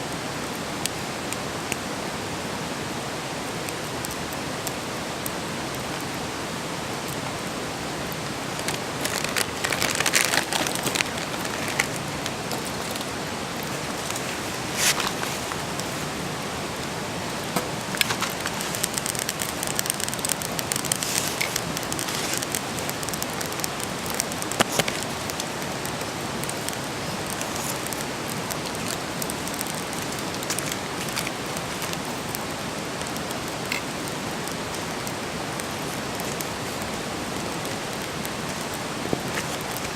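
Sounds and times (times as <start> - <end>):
campfire crackling and popping: 2.9 - 39.9.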